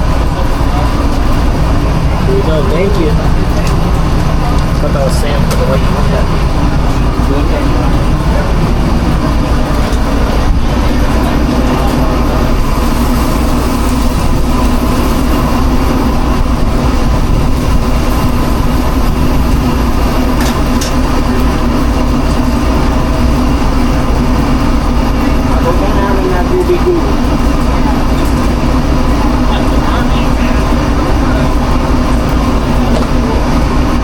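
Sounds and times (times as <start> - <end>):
faint steady whine: 0.0 - 34.0
kitchen machinery humming: 0.0 - 34.0.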